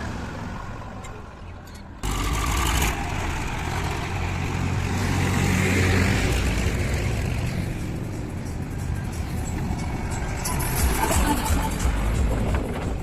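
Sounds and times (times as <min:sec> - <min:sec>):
heavy diesel engine running: 0:02.0 - 0:13.0.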